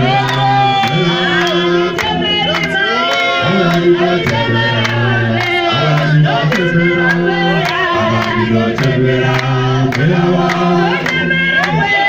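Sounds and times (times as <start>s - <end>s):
congregation singing: 0.0s - 12.0s.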